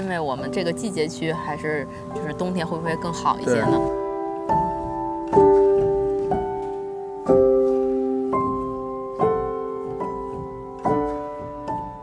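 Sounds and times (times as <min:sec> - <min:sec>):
slow solo piano: 0:01.9 - 0:12.0.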